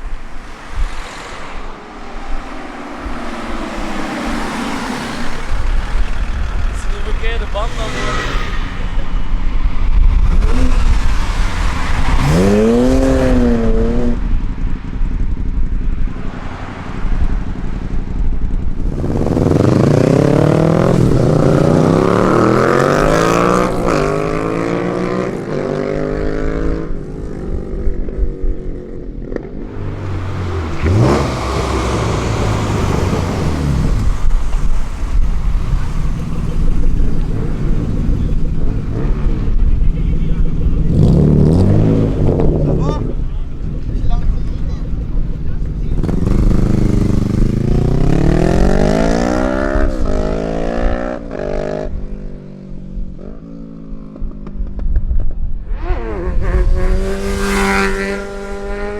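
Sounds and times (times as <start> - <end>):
vehicle engines revving: 0.0 - 58.9.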